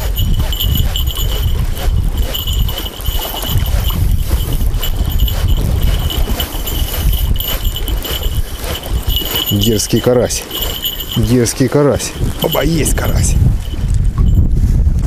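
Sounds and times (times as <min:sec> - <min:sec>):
small bells jingling: 0:00.0 - 0:14.5
wind buffeting microphone: 0:00.0 - 0:15.0.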